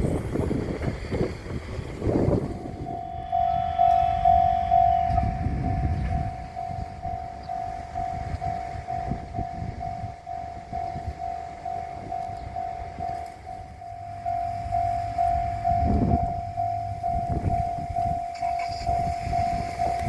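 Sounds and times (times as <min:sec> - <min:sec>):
level-crossing warning bell ringing: 0:00.0 - 0:20.0
low rumble of passing train: 0:00.0 - 0:20.0.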